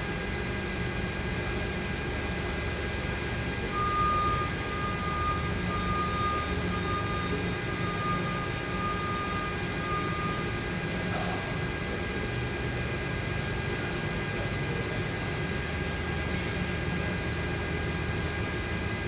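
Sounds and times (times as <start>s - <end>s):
electrical hum and fan noise: 0.0s - 19.0s.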